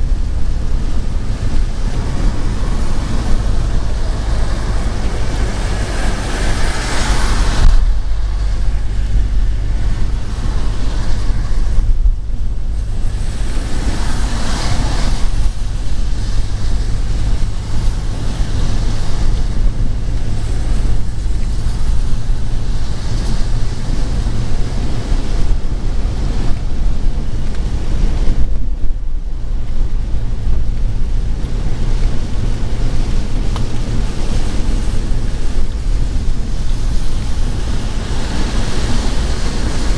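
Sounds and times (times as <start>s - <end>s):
traffic rumble: 0.0s - 39.9s
tyre hiss on wet road: 0.0s - 39.9s.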